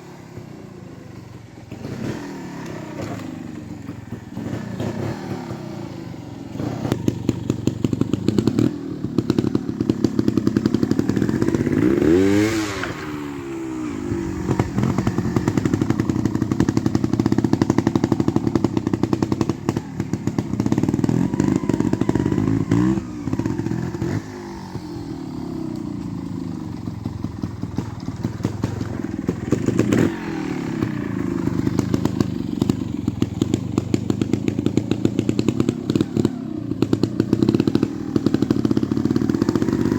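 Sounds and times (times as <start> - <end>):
motorcycle engine throttle blips: 0.0 - 39.9.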